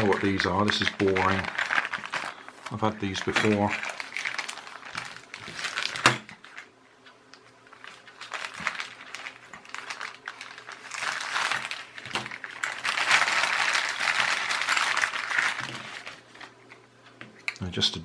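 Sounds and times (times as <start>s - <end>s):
plastic packaging crinkling: 0.0s - 6.7s, 7.4s - 16.8s.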